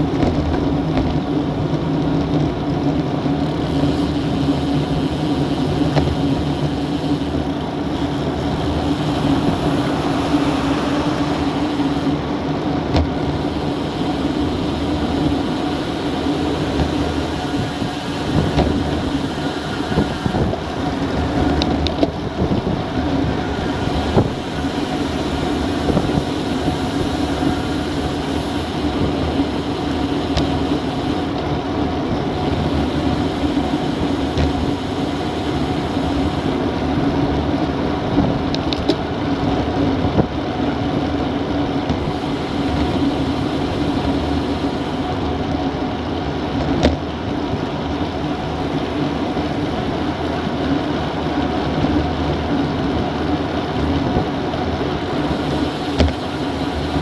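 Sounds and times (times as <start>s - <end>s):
bicycle tyre noise: 0.0s - 57.0s
bike ticks and rattles: 0.0s - 57.0s
wind rush on microphone: 0.0s - 57.0s.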